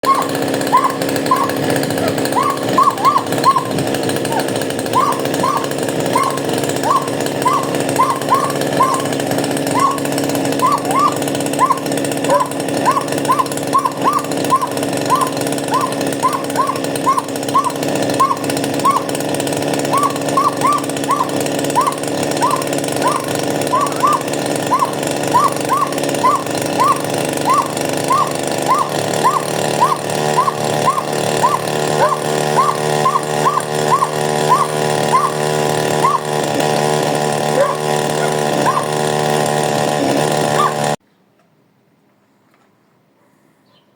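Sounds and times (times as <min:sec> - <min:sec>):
chainsaw engine running: 0:00.0 - 0:41.0.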